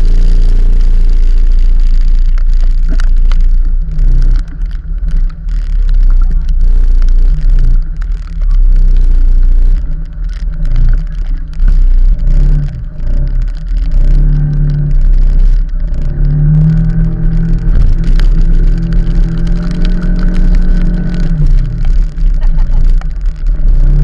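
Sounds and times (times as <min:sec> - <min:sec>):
vehicle engine accelerating: 0:00.0 - 0:24.0
wind rumble on microphone: 0:00.0 - 0:24.0.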